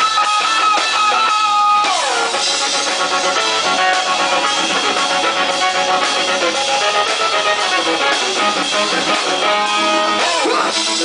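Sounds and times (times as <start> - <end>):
bass guitar: 0.0 - 11.0
drums: 0.0 - 11.0
electric guitar: 0.0 - 11.0.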